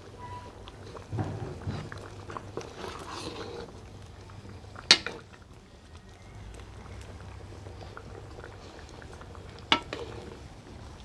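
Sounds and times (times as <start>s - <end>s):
ladle stirring thick curry: 0.0s - 11.0s.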